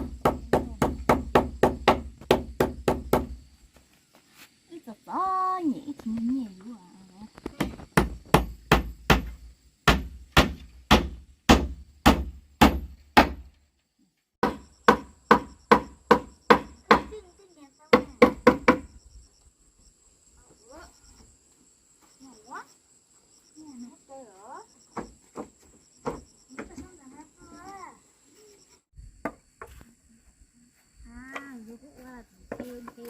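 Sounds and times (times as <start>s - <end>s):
high insect chirping: 0.0s - 33.0s.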